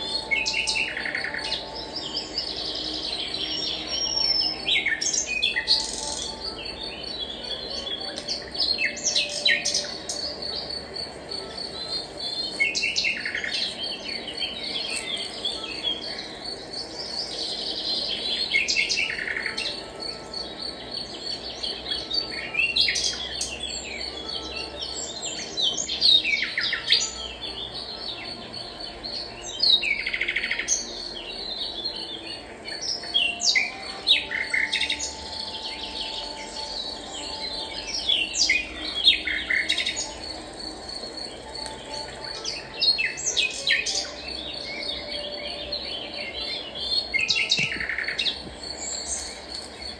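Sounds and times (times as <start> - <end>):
faint steady high tone: 0.0 - 49.9
songbirds chirping: 0.0 - 49.9.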